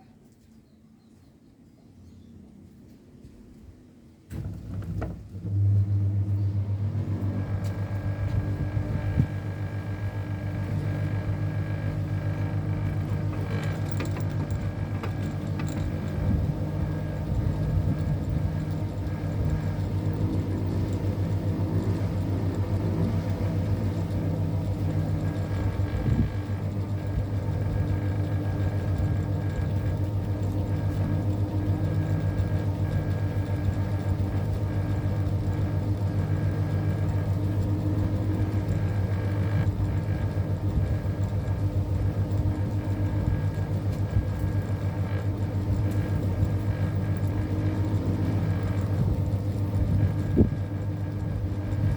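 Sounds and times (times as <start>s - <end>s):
ceiling fan motor hum: 0.0s - 51.9s.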